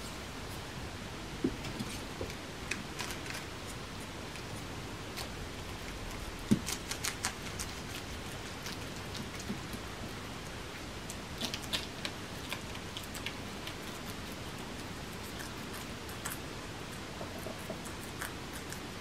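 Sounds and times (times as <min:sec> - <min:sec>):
guinea pigs chewing lettuce: 0:01.7 - 0:19.0.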